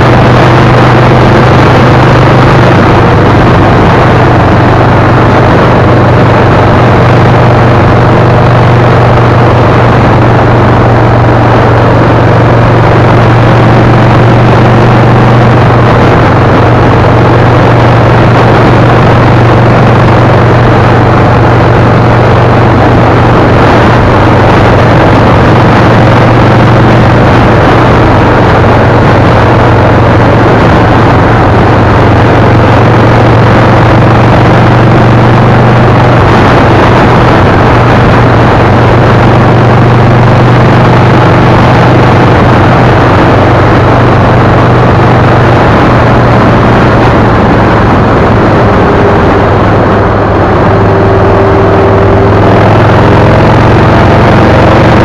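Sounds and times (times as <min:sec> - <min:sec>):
engine hum: 0:00.0 - 0:55.0
wind and road noise: 0:00.0 - 0:55.0.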